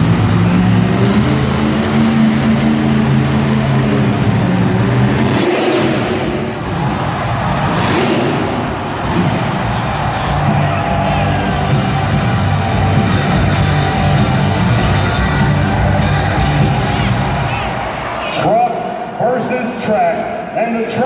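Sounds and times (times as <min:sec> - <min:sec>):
truck engine revving: 0:00.0 - 0:18.3.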